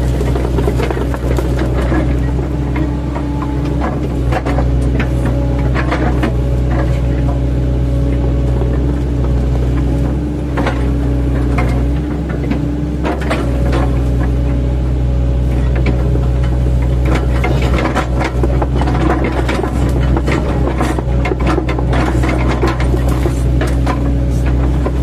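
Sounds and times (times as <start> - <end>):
excavator diesel engine: 0.0 - 25.0.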